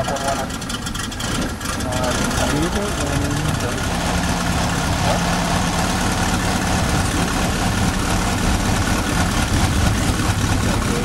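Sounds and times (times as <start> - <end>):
propeller engine idling: 0.0 - 11.0.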